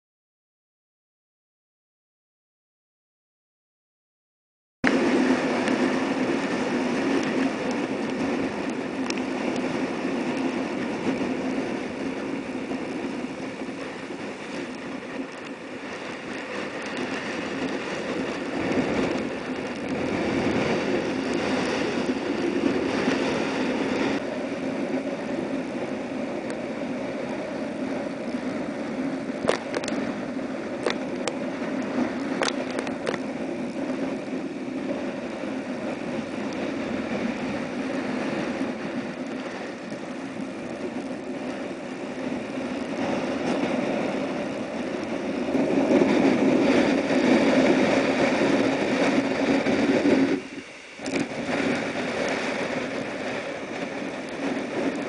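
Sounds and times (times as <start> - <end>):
strong wind: 4.8 - 55.0.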